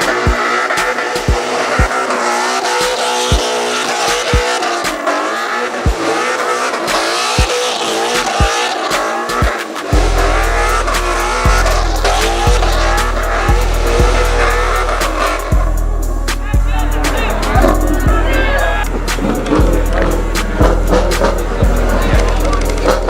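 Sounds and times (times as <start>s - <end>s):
car tires squealing: 0.0s - 23.0s
music with kick drum and bass: 0.0s - 23.0s.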